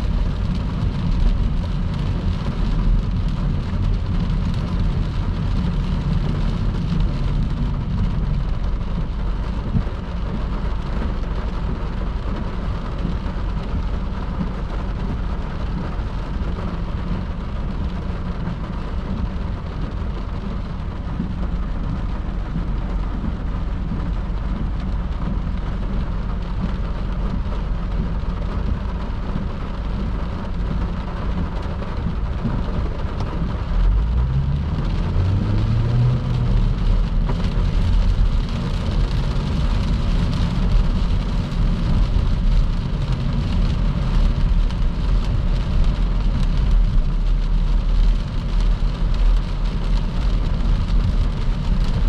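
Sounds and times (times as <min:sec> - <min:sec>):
car driving in heavy rain: 0:00.0 - 0:52.0.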